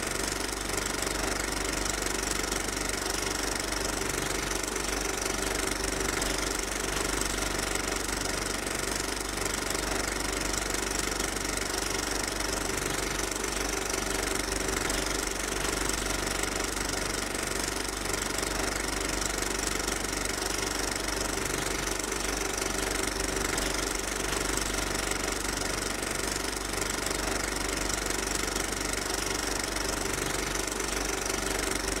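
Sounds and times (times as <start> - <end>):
steady mechanical drone: 0.0 - 32.0.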